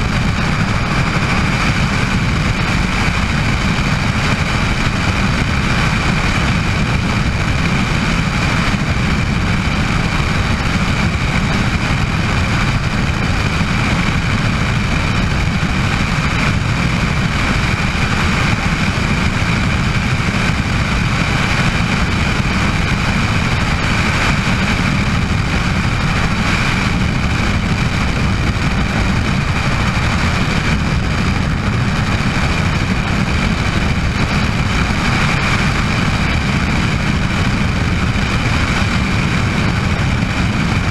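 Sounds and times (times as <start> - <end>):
helicopter rotor rumble: 0.0 - 40.9
turbine whine: 0.0 - 40.9.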